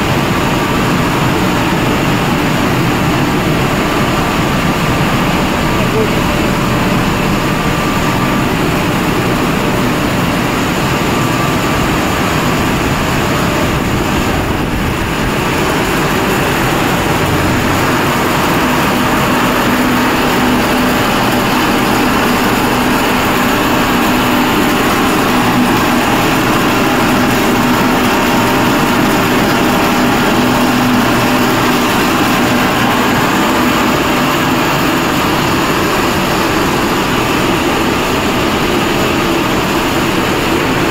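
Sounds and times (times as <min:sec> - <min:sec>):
factory machinery running: 0:00.0 - 0:40.9.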